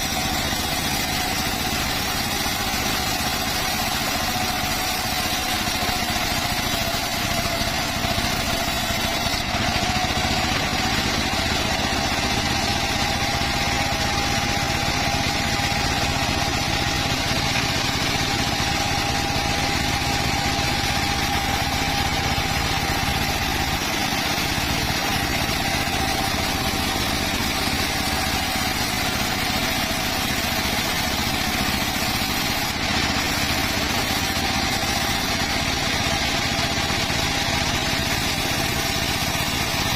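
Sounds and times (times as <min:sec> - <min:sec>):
circular saw running: 0:00.0 - 0:39.9.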